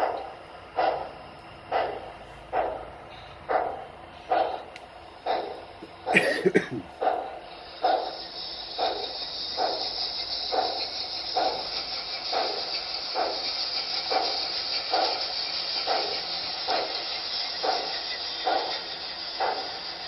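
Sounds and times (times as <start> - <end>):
model steam locomotive chuffs: 0.0 - 20.0
steady steam hiss: 0.0 - 20.0.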